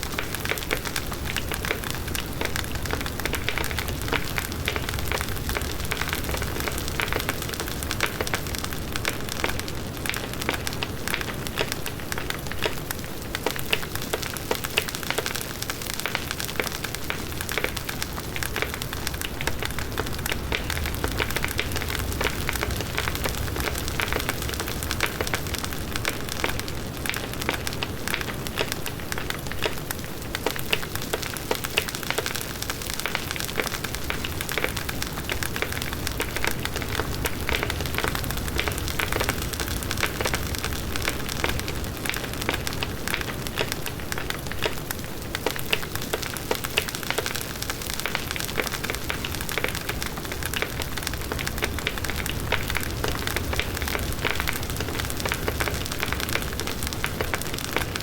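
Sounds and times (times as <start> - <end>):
low rumble of flames: 0.0 - 15.2, 15.9 - 32.4, 33.0 - 58.0
bonfire crackling: 0.0 - 58.0.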